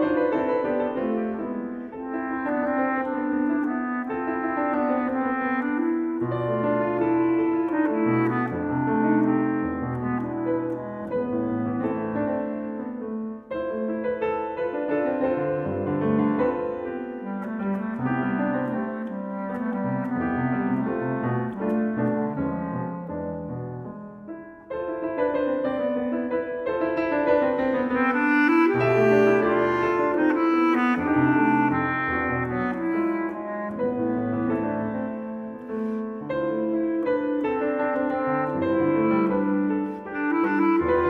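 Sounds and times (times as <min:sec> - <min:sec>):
bass clarinet melody: 0:00.0 - 0:13.1, 0:13.9 - 0:24.0, 0:25.2 - 0:41.0
piano accompaniment: 0:00.0 - 0:41.0.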